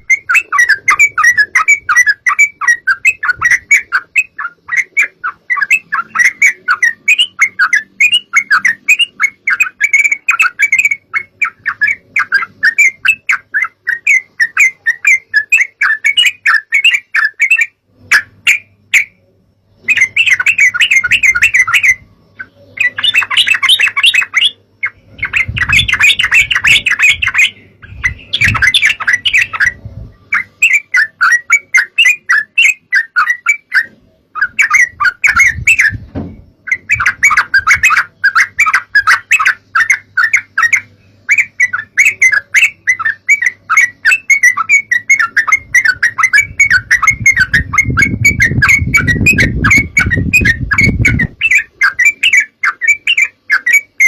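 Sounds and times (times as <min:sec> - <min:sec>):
bird chattering: 0:00.0 - 0:19.2, 0:19.8 - 0:54.0
faint low hum: 0:00.0 - 0:52.4.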